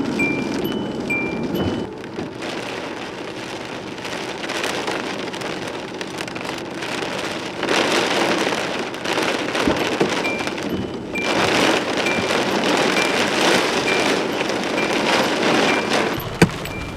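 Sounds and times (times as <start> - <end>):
torrential rain pounding on a car: 0.0 - 16.9
wind gusts: 0.0 - 16.9.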